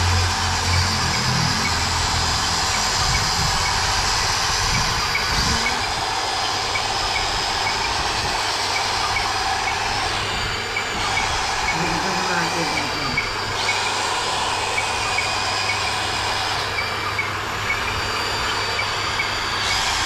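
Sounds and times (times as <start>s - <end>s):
electric motor whir: 0.0s - 20.0s.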